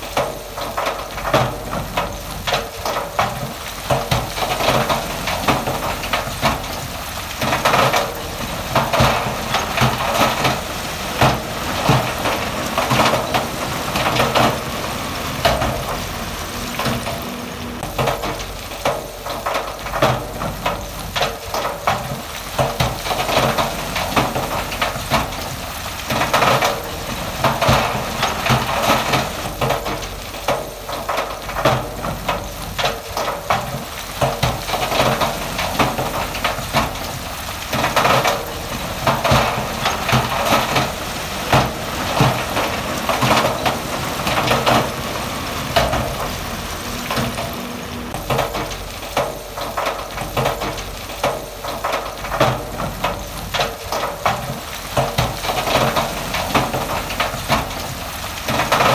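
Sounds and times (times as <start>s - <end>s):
diesel earthmoving machine running: 0.0s - 58.9s.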